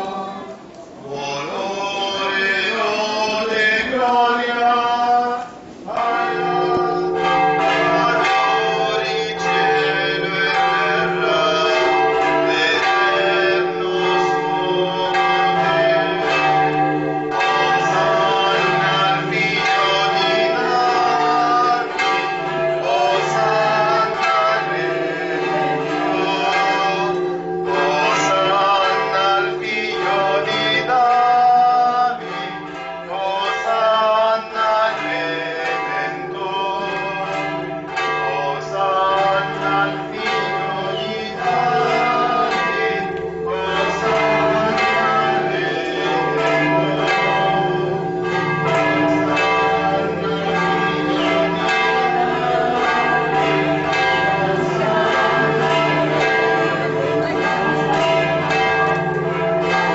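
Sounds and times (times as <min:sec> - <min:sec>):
church bells ringing: 0:00.0 - 0:59.9
people singing a hymn: 0:00.0 - 0:59.9.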